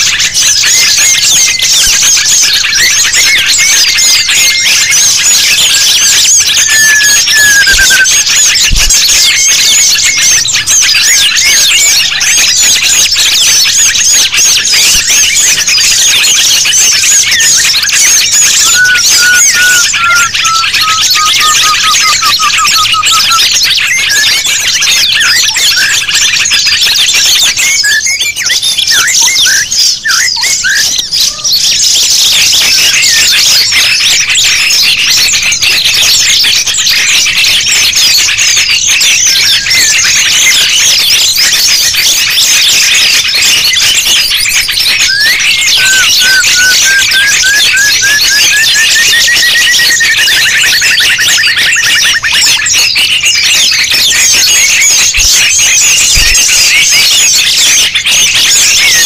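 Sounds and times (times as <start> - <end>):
bird trill: 0.0 - 59.0
songbirds chirping chorus: 0.0 - 59.0.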